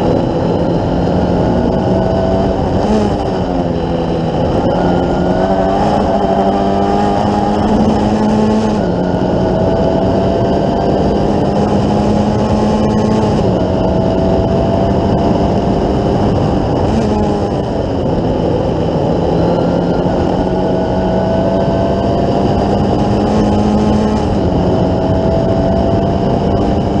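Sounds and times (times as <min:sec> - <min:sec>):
racing car engine running hard: 0:00.0 - 0:27.0
wind and road rush: 0:00.0 - 0:27.0.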